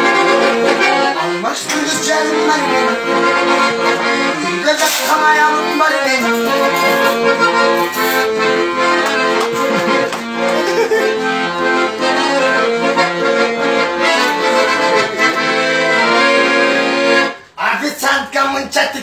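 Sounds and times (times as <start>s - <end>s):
piano accordion: 0.0s - 17.6s.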